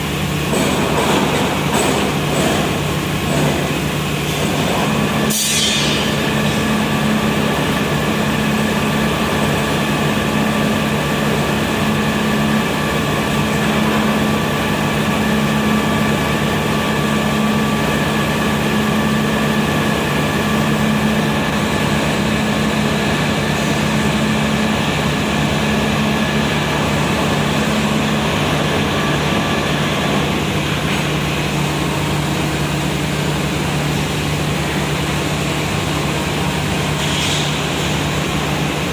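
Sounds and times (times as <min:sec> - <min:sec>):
industrial furnace droning: 0:00.0 - 0:38.9.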